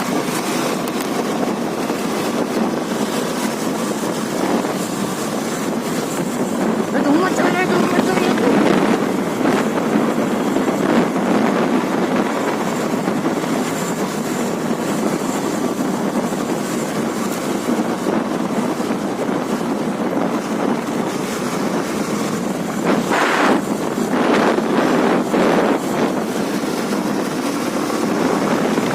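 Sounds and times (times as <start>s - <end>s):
wind rushing over microphone: 0.0s - 28.9s.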